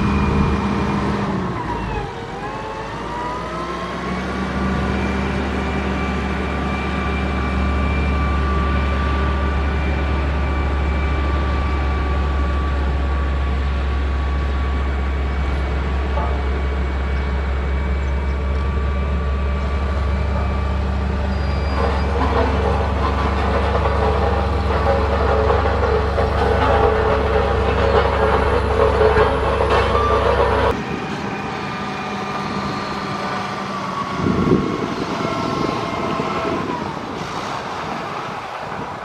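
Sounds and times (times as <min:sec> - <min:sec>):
heavy diesel engine running: 0:00.0 - 0:39.0
steady whine: 0:04.7 - 0:37.2.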